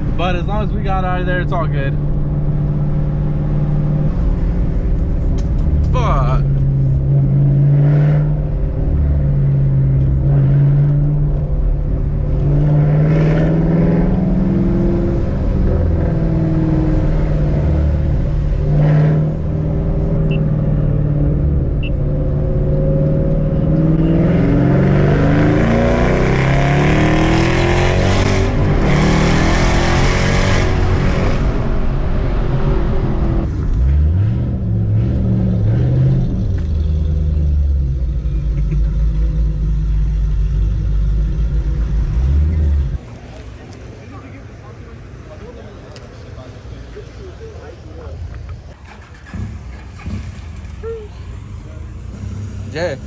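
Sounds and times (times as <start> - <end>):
car engine revving: 0.0 - 53.0
wind and road noise: 0.0 - 53.0.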